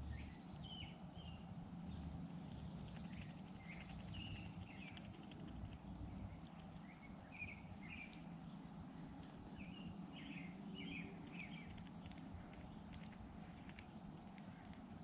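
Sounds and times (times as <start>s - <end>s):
low outdoor background noise: 0.0s - 15.0s
small birds chirping: 0.0s - 15.0s.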